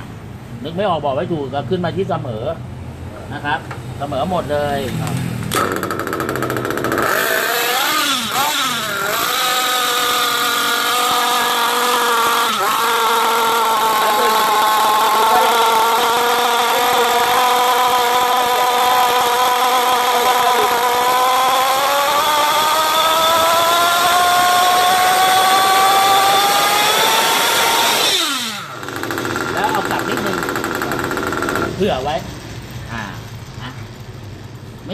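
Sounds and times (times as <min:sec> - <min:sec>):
model car engine high-pitched idle: 0:05.5 - 0:34.9.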